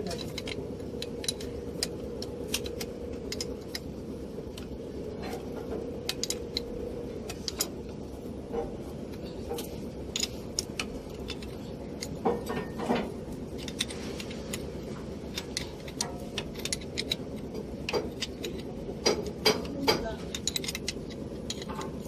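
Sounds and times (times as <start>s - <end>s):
low background noise: 0.0s - 22.0s
spanner clinking on nuts: 0.0s - 22.0s.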